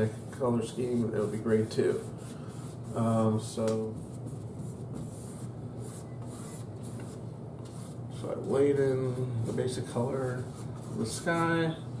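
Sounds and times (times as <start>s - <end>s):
paintbrush scrubbing on canvas: 0.0s - 11.8s.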